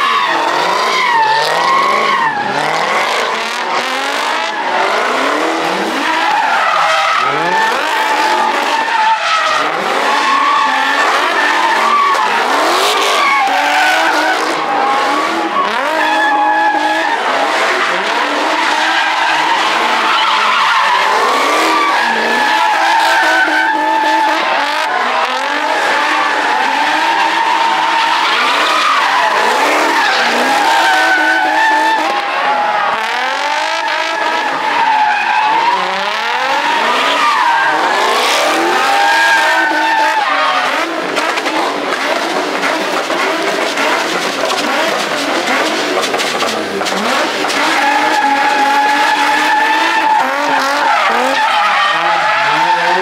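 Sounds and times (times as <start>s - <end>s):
car engines revving: 0.0s - 53.0s
tires squealing: 0.0s - 53.0s.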